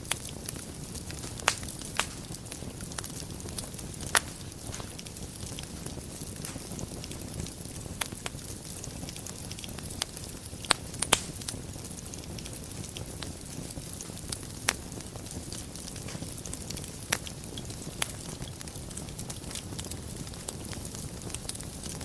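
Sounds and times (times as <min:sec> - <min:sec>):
fire crackles and pops: 0:00.0 - 0:22.0
fire flames rumbling: 0:00.0 - 0:22.0.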